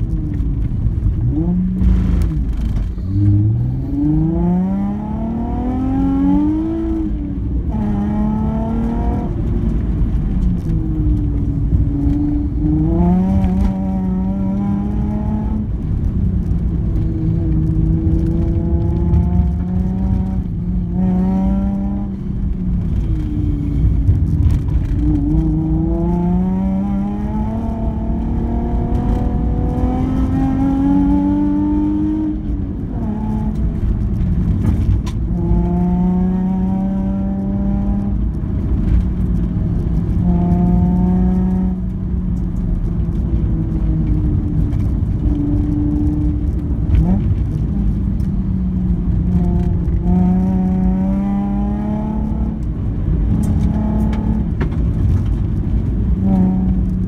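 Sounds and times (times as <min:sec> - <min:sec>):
car engine accelerating hard: 0:00.0 - 0:57.0
tyres rumbling on wet gravel road: 0:00.0 - 0:57.0.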